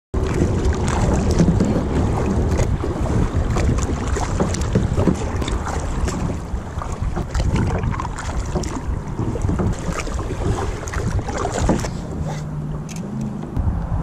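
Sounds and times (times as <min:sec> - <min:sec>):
paddle splashing in water: 0:00.2 - 0:12.9
wind buffeting microphone: 0:00.2 - 0:14.0.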